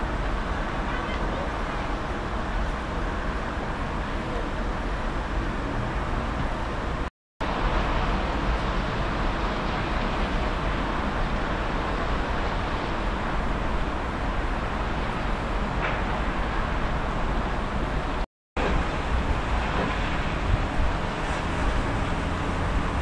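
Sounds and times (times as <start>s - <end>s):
wind and rain rushing: 0.0s - 23.0s.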